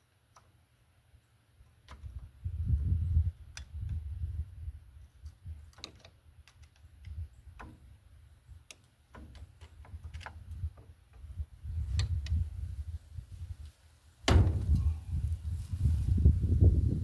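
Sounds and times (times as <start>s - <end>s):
low rumbling handling noise: 1.6s - 17.0s.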